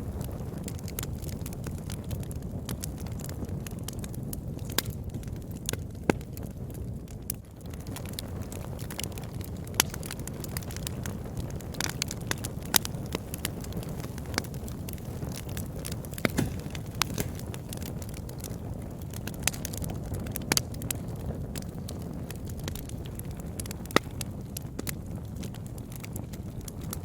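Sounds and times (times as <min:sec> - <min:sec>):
fire pops and snaps: 0:00.0 - 0:27.0
low rumble of burning: 0:00.0 - 0:27.0
wood fire crackling: 0:00.0 - 0:27.0.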